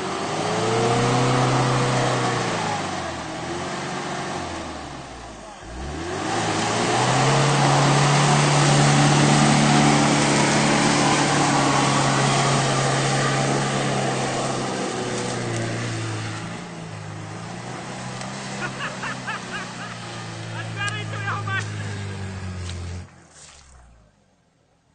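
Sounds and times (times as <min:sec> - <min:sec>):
tyres churning mud: 0:00.0 - 0:24.1
car engine revving: 0:00.0 - 0:24.6.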